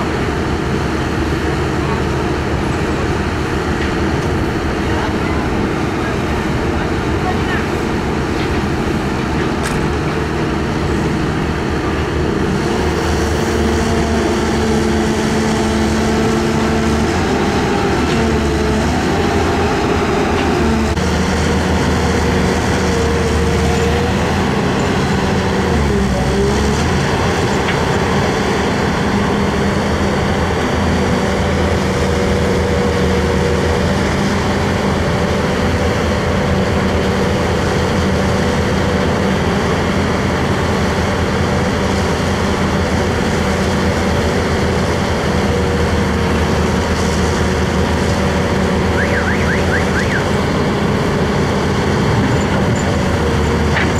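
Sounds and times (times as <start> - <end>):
excavator diesel engines running: 0.0 - 53.9.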